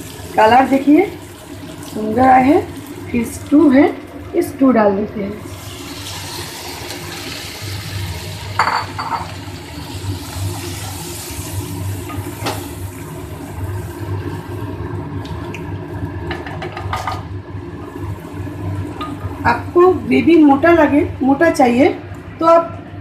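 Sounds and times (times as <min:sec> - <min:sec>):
gravy simmering with hiss: 0:00.0 - 0:22.8.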